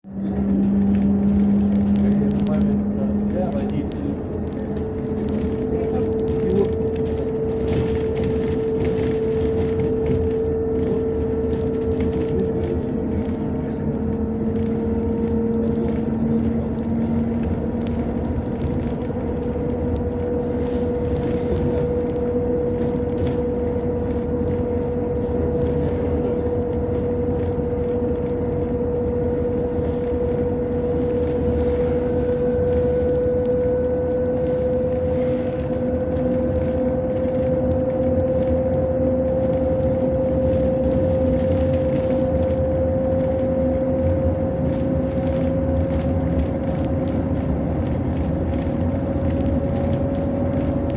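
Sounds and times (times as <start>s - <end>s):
vehicle motor hum: 0.0s - 50.9s.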